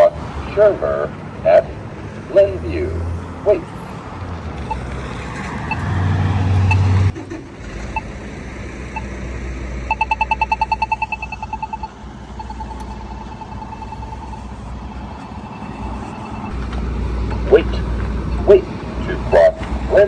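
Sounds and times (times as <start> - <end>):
pedestrian signal ticking: 0.0 - 20.0
rapid pedestrian signal ticking: 0.0 - 20.0
vehicle passing: 0.0 - 20.0.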